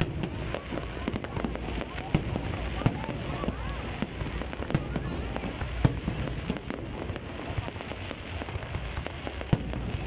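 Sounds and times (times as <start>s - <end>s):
firework bangs and crackles: 0.0s - 10.0s.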